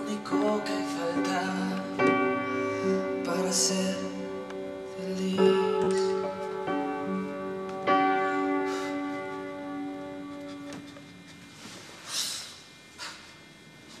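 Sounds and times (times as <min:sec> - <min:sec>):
piano chords ringing: 0:00.0 - 0:11.9.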